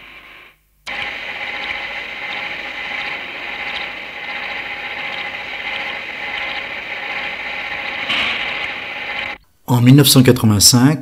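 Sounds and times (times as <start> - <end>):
lathe whirring and humming: 0.0 - 9.4.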